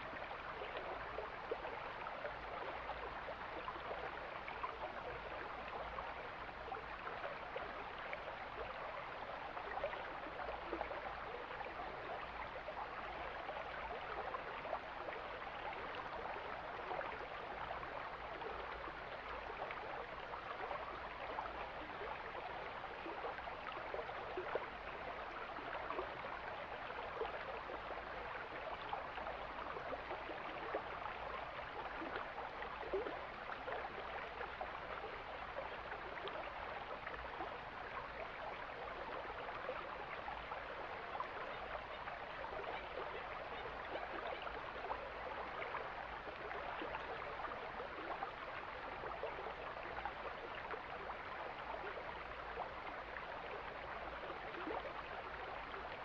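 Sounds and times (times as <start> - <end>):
water splashes and gurgles: 0.0 - 56.0.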